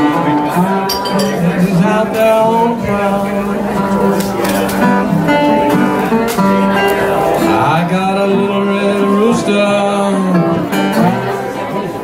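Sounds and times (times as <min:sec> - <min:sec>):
acoustic blues on resonator guitar: 0:00.0 - 0:12.0.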